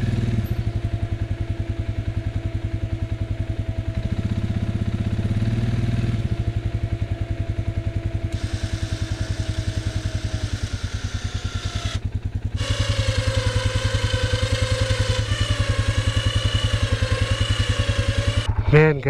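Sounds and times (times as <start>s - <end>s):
atv engine idling: 0.0s - 18.9s
steady whine: 0.0s - 19.0s.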